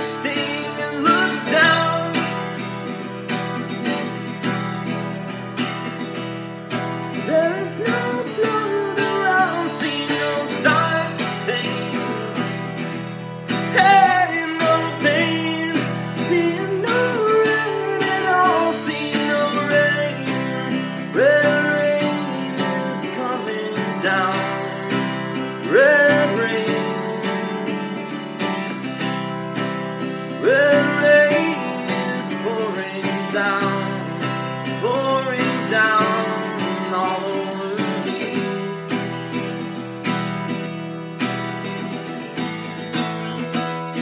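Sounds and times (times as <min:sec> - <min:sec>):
acoustic guitar strumming: 0:00.0 - 0:44.0.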